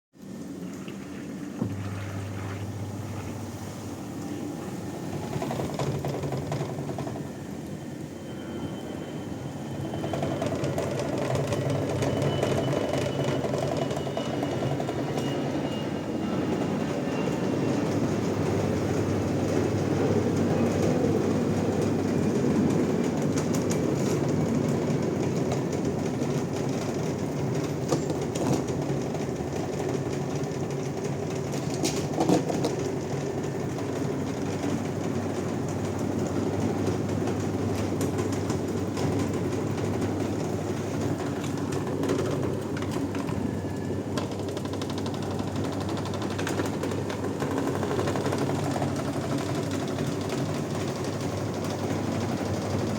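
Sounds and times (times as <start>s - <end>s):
washing machine motor hum: 0.8s - 52.9s.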